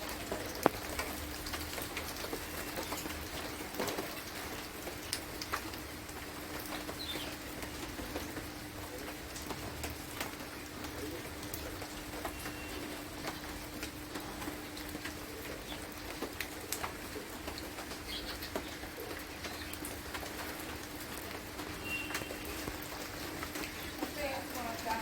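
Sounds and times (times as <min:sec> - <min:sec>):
steady rain: 0:00.0 - 0:25.0
drips and taps: 0:00.1 - 0:25.0.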